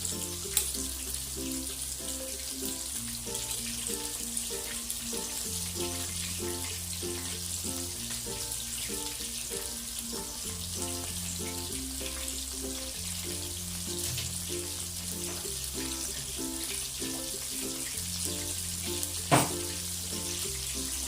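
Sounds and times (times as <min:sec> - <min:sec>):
background music with bass line: 0:00.0 - 0:21.0
prawns sizzling in hot oil: 0:00.0 - 0:21.0.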